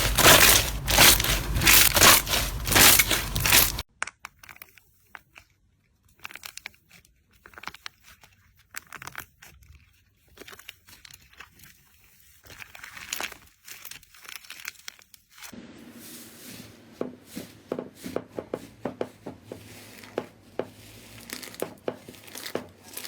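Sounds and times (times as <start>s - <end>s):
slime crunching and crackling: 0.0s - 15.6s, 19.6s - 23.0s.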